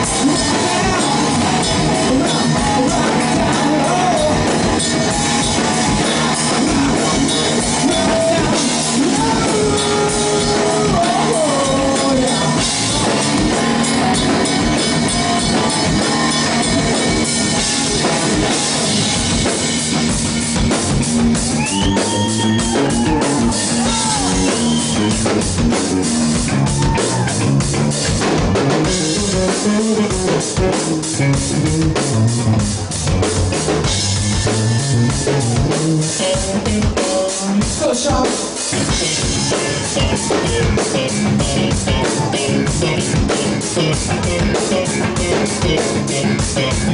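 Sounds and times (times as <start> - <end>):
drum kit beats: 0.0 - 46.9
electric guitars: 0.0 - 46.9.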